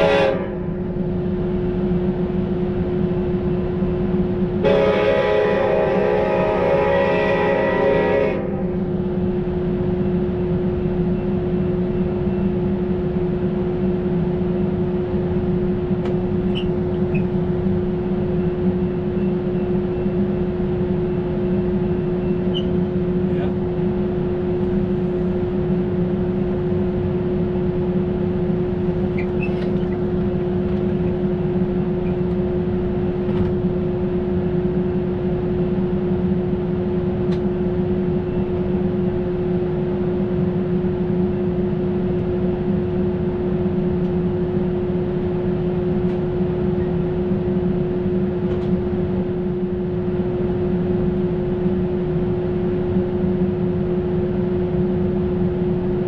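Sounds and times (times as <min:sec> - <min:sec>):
train machine hum: 0:00.0 - 0:56.0.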